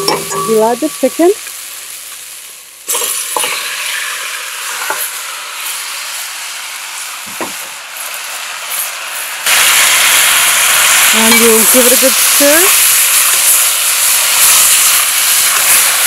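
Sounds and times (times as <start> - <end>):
chicken sizzling in pot: 0.0 - 16.0.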